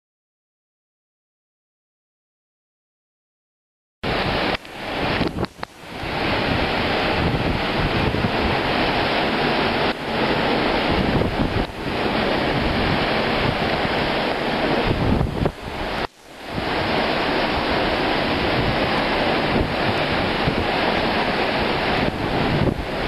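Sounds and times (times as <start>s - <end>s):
sea waves: 4.0s - 23.0s
wind on microphone: 4.0s - 23.0s.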